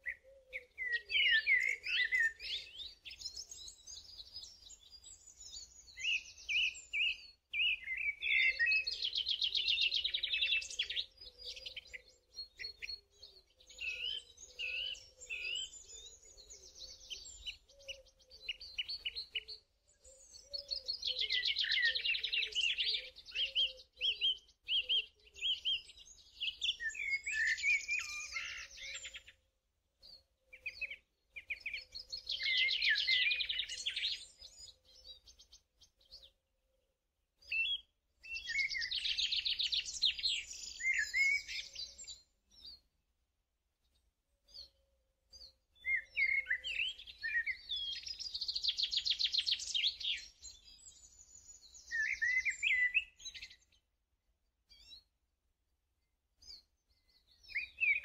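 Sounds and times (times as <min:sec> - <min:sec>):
birdsong chirps and trills: 0:00.0 - 0:43.1, 0:43.7 - 0:58.0.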